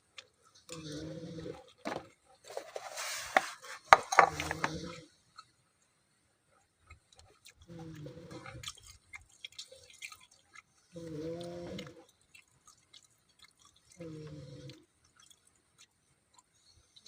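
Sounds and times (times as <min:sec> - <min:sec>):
person chewing food: 0:00.0 - 0:05.9, 0:06.6 - 0:17.0.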